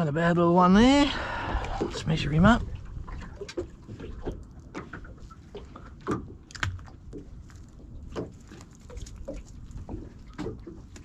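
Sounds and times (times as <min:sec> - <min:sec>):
fish tapping and knocking on boat: 0:01.3 - 0:11.0.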